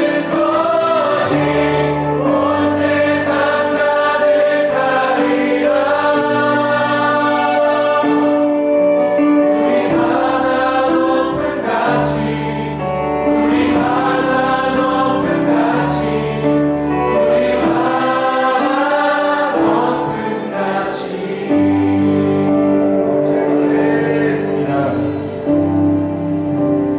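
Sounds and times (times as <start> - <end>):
group of voices singing: 0.0 - 26.6
keyboard: 0.0 - 26.9.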